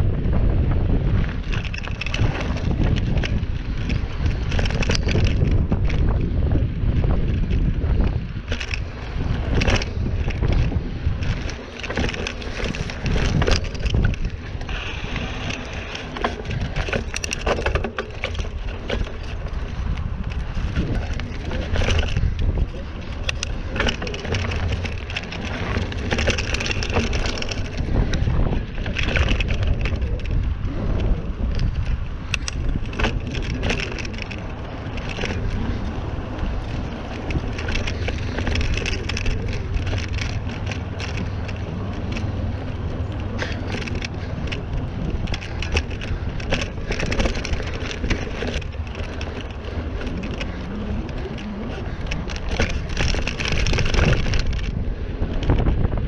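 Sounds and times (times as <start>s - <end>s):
bike tyres rumbling on dirt: 0.0s - 56.0s
clicks and crackles from tyres: 0.0s - 56.0s.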